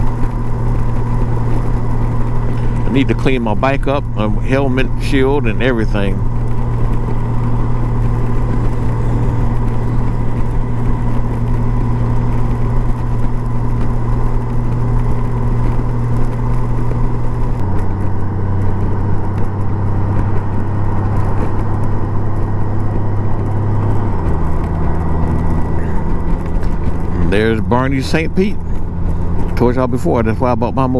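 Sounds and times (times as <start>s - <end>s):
motorcycle engine running: 0.0s - 30.9s
wind and road noise: 0.0s - 30.9s.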